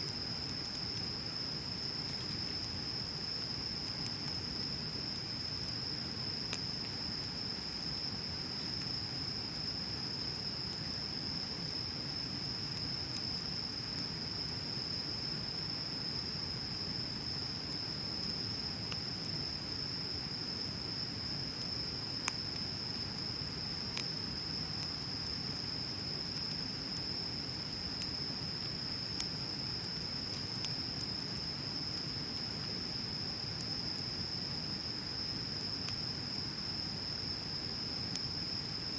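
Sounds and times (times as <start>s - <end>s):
bonfire crackling: 0.0s - 38.9s
crickets chirring: 0.0s - 38.9s.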